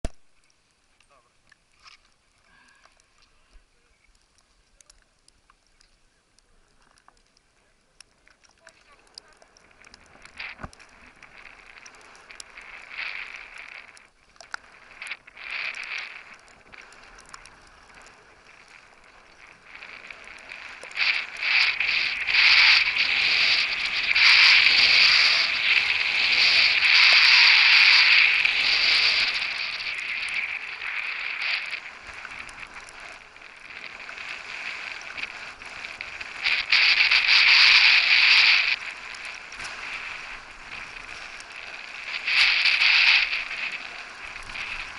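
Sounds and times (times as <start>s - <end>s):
skis scraping on snow: 8.6s - 44.9s.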